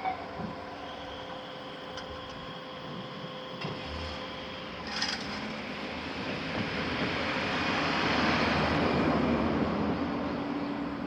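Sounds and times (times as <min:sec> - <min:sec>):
train passing: 0:00.0 - 0:11.0.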